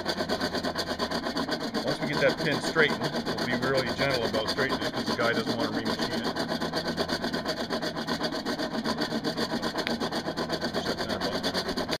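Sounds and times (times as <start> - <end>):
hand-cranked blower whirring: 0.0 - 12.0.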